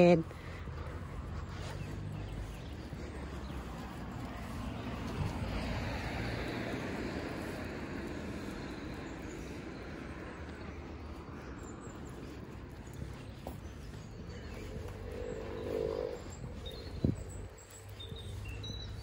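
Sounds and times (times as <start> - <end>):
road traffic hiss: 0.0 - 19.0
wind rumble on microphone: 0.7 - 19.0.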